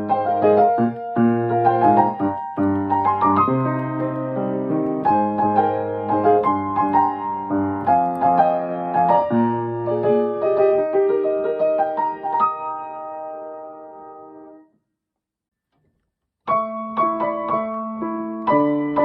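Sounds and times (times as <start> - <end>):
piano keyboard tune over chords: 0.0 - 14.7, 16.4 - 19.0.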